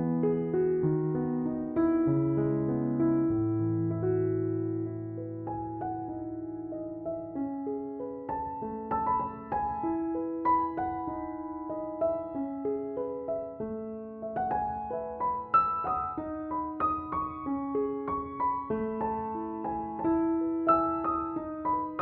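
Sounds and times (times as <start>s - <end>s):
gentle solo piano melody: 0.0s - 22.0s.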